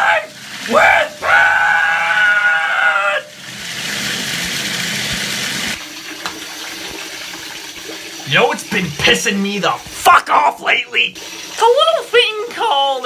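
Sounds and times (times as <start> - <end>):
water pouring into bathtub: 0.0 - 13.0.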